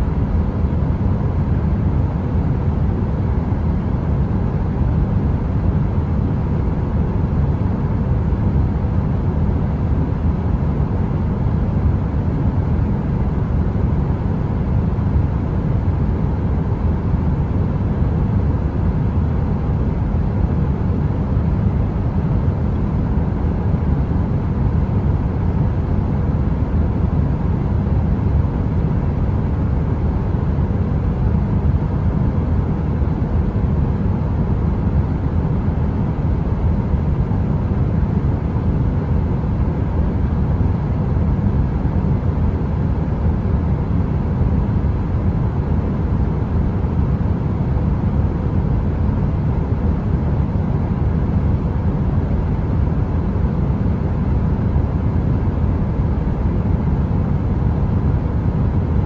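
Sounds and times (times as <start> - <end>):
faint even hum: 0.0 - 59.0.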